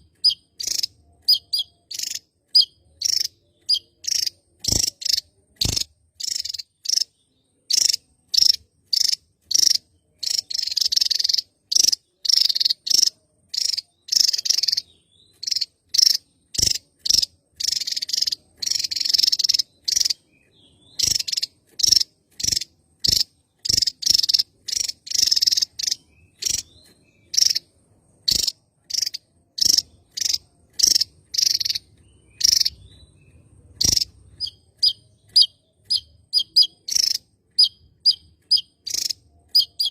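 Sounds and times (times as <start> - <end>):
bird rapid chattering: 0.0 - 33.0, 33.8 - 39.9.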